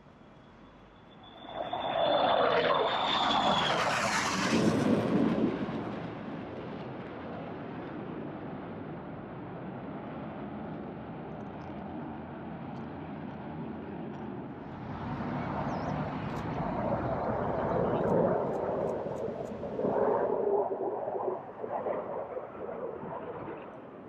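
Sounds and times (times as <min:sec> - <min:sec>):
fighter jet flying overhead: 0:00.0 - 0:24.0.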